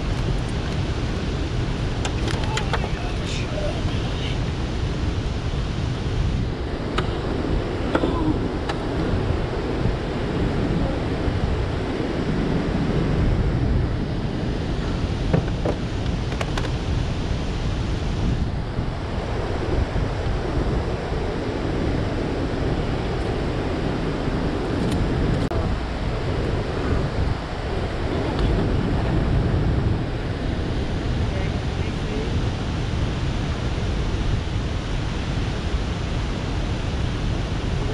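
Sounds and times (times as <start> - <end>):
turbulent water rushing: 0.0 - 37.9
wind noise on microphone: 0.0 - 37.9.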